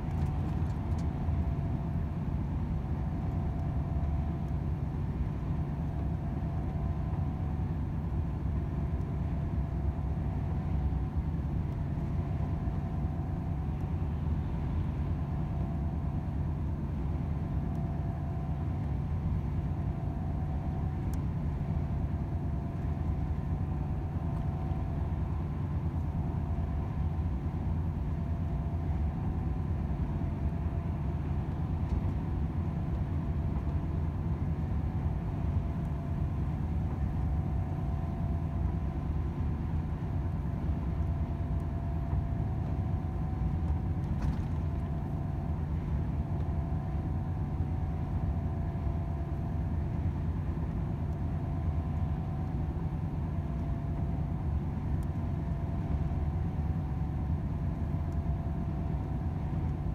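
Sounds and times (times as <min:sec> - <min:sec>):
faint steady whine: 0:00.0 - 0:59.9.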